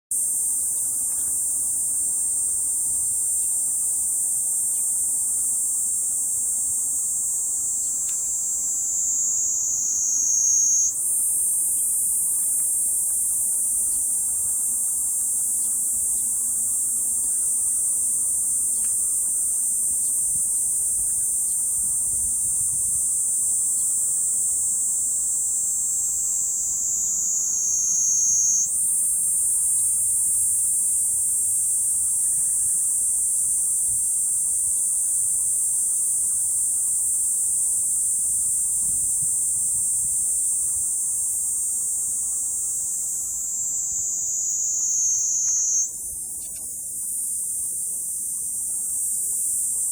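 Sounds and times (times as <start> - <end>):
cicadas buzzing: 0.1 - 49.9.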